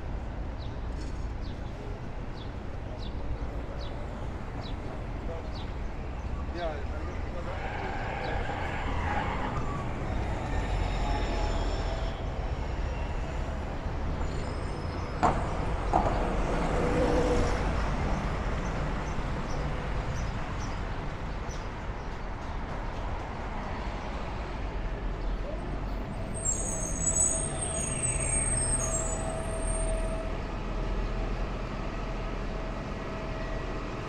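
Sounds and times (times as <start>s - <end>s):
traffic passing with low rumble: 0.0s - 34.0s.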